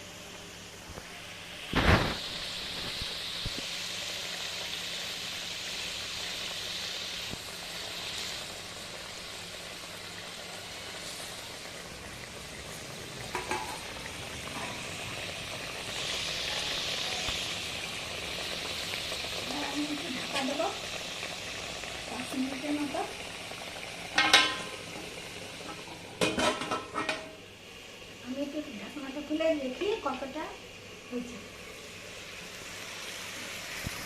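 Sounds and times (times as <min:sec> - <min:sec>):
eggplant sizzling in a pan: 0:00.0 - 0:34.0.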